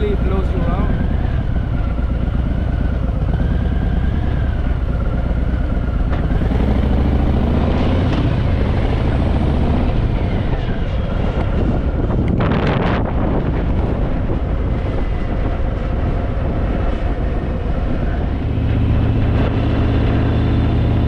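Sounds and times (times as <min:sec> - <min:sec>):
motorcycle engine accelerating: 0:00.0 - 0:21.0
wind rushing over microphone: 0:00.0 - 0:21.0.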